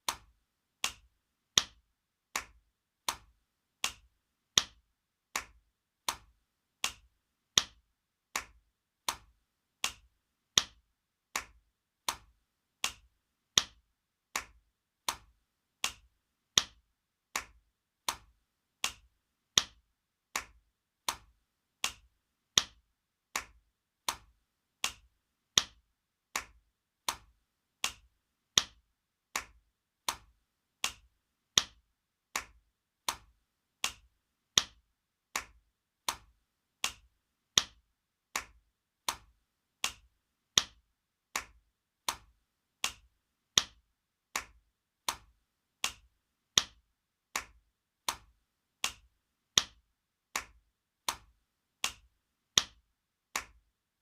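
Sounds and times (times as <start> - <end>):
hand slapping skin: 0.0 - 52.8, 53.4 - 53.6.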